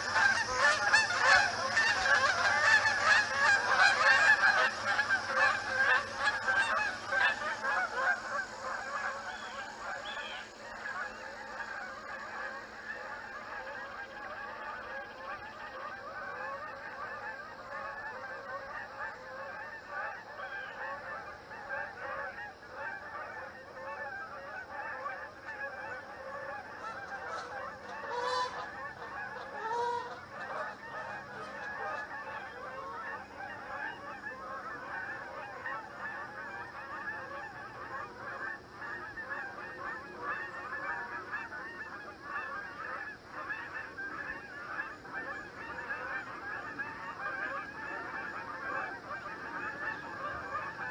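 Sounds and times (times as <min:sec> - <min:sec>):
geese honking: 0:00.0 - 0:50.9.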